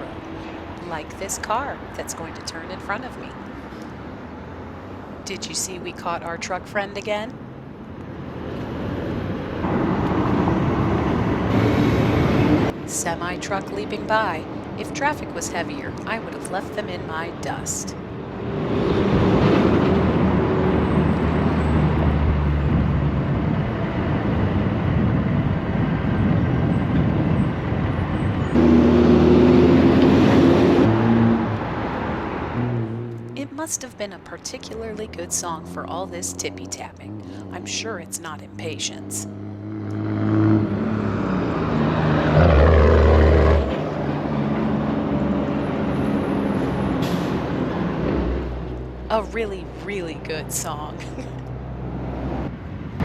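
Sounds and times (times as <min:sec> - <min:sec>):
city traffic noise: 0:00.0 - 0:53.0
road noise: 0:00.0 - 0:53.0
vehicle engine drone: 0:00.0 - 0:53.0.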